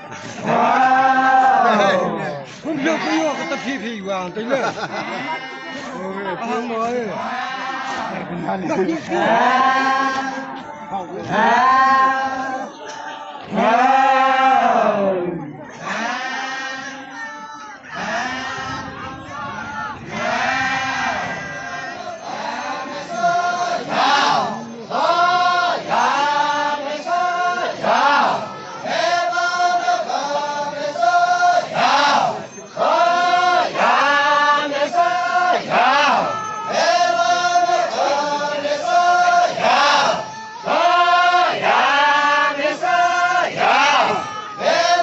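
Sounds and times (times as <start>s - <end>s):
men chanting together: 0.3s - 3.8s, 7.1s - 10.6s, 11.2s - 45.0s.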